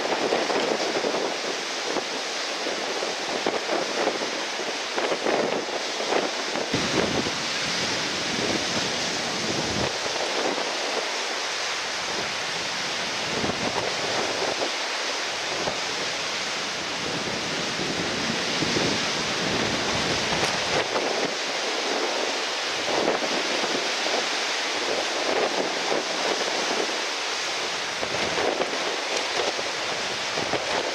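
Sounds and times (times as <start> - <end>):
gusty wind buffeting microphone: 0.0 - 30.9
surf hiss: 0.0 - 30.9.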